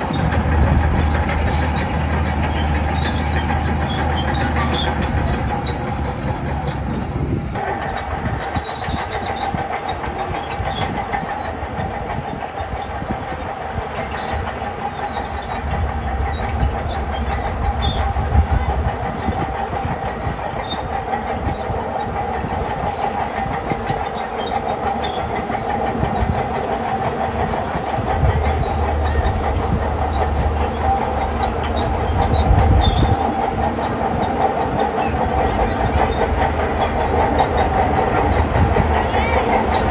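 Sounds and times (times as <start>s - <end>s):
bulldozer diesel engine running: 0.0s - 39.9s
steel tracks clanking and squealing: 0.0s - 39.9s.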